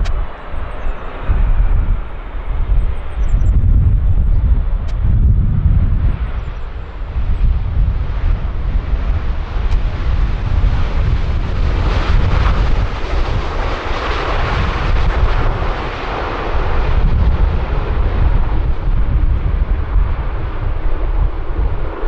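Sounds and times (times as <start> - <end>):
jet engines roaring: 0.0 - 22.0
wind rumble on microphone: 0.0 - 22.0.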